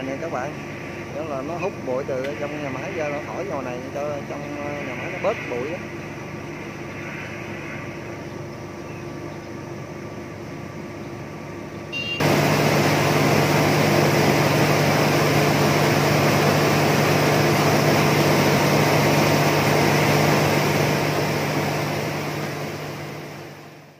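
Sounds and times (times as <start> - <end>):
milling machines roaring: 0.0 - 23.9
muffled machinery hum: 0.0 - 23.9.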